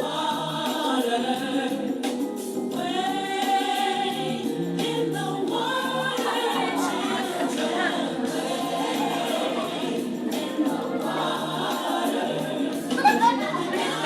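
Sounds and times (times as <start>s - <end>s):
choir singing a gospel song: 0.0s - 14.0s.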